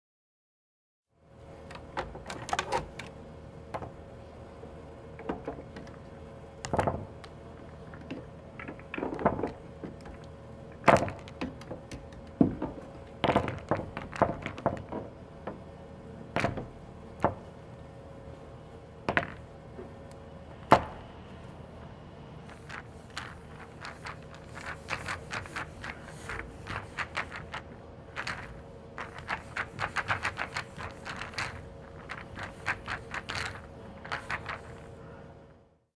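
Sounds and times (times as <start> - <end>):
faint steady hum: 1.1 - 35.9
pool balls rolling and clacking: 1.6 - 4.1, 5.0 - 17.8, 19.0 - 21.1, 22.4 - 35.0.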